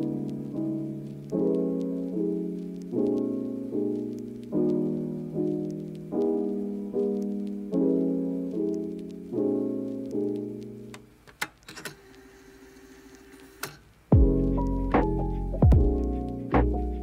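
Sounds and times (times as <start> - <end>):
soft piano chords: 0.0 - 11.2, 14.1 - 17.0.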